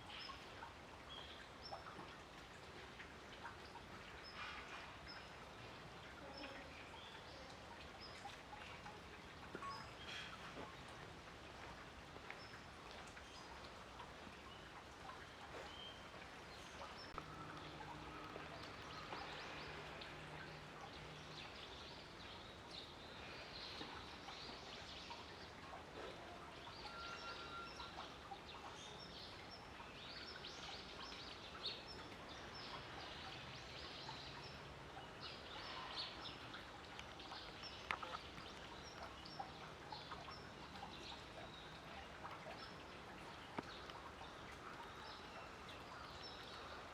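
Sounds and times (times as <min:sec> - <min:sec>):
outdoor background noise: 0:00.0 - 0:46.9.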